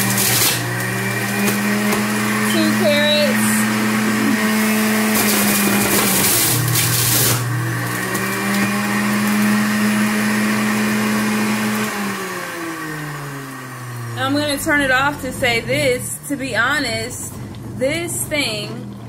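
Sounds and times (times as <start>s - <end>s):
carrots grinding in juicer: 0.0s - 19.0s
juicer motor humming: 0.0s - 19.0s.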